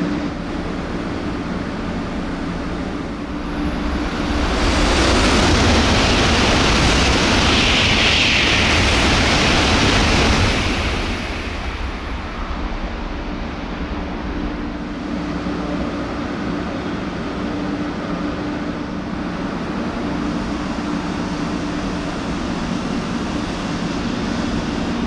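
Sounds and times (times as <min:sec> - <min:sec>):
train passing at high speed: 0:00.0 - 0:25.0.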